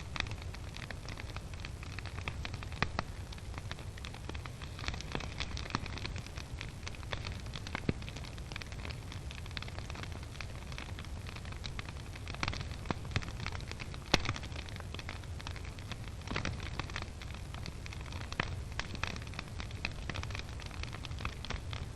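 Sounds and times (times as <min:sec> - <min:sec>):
fire low rumble: 0:00.0 - 0:21.9
wood fire crackling and popping: 0:00.0 - 0:21.9.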